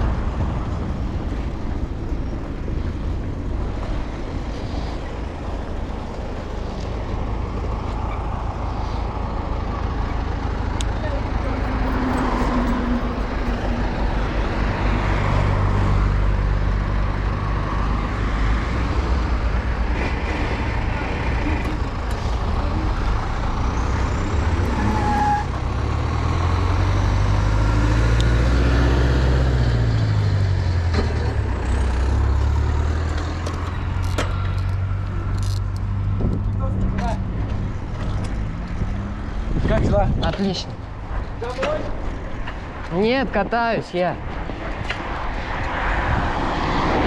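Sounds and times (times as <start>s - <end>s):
passing car engine: 0.0s - 41.0s, 44.4s - 47.0s
traffic rumble: 0.0s - 47.0s.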